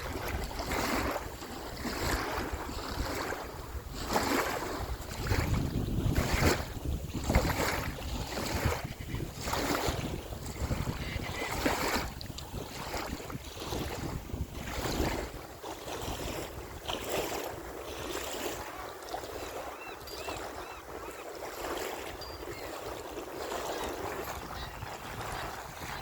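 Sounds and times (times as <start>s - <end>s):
ocean waves washing ashore: 0.0s - 26.0s
wind buffeting microphone: 0.0s - 26.0s.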